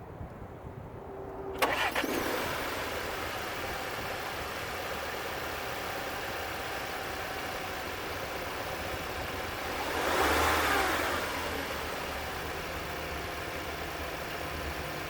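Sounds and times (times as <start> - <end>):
car engine starting and idling: 1.3 - 15.0.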